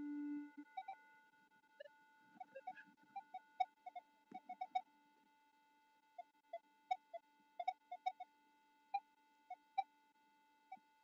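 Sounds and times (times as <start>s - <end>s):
faint steady electronic tone: 0.0s - 11.0s.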